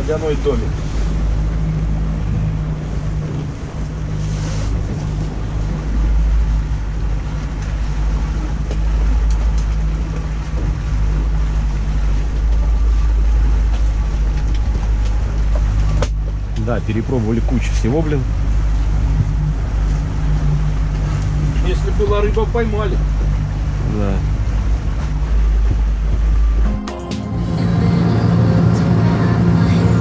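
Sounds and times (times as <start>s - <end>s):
water against boat hull: 0.0s - 26.7s
motorboat engine drone: 0.0s - 30.0s.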